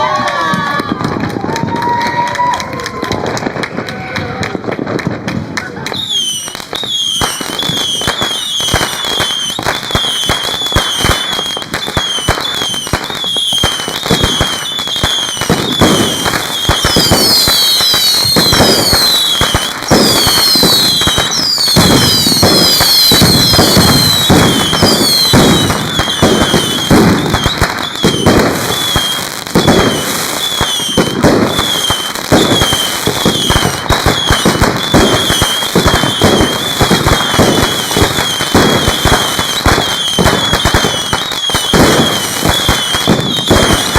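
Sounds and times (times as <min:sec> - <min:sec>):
fireworks banging and crackling: 0:00.0 - 0:43.9
fireworks whistling: 0:05.8 - 0:43.9.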